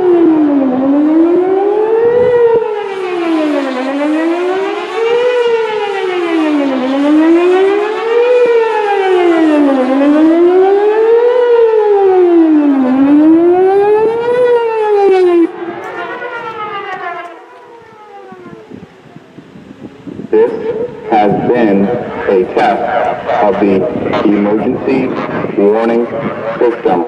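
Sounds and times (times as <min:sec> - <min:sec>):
warning siren rising and falling: 0:00.0 - 0:27.0.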